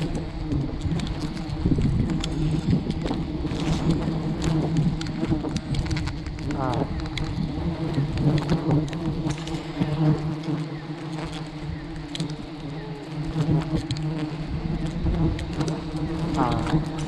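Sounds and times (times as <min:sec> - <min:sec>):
honey bees buzzing: 0:00.0 - 0:17.0
small clicks: 0:00.0 - 0:17.0.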